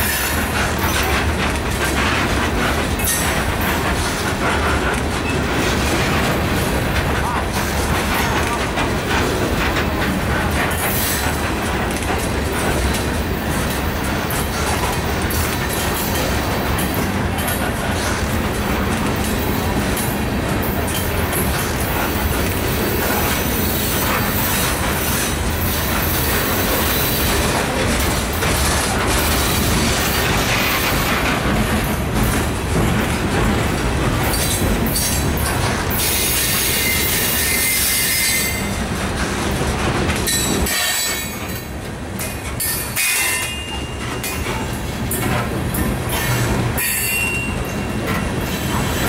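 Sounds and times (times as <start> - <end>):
heavy rumble of train wheels on rail: 0.0 - 49.0.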